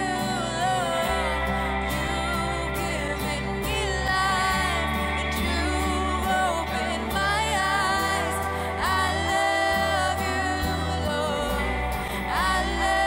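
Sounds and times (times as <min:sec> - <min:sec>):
electric guitar: 0:00.0 - 0:13.0
low bass: 0:00.0 - 0:13.0
second female singer: 0:00.0 - 0:13.0
woman singing lead: 0:00.0 - 0:13.0.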